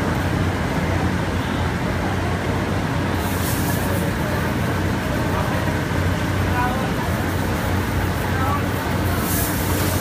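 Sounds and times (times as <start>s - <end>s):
floor machinery droning: 0.0s - 10.0s.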